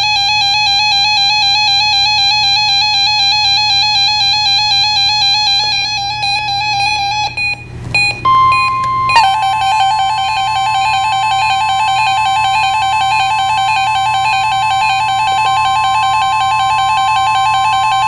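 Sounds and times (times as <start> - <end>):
steady higher tone: 0.0 - 18.0
warbling electronic alert tone: 0.0 - 18.0.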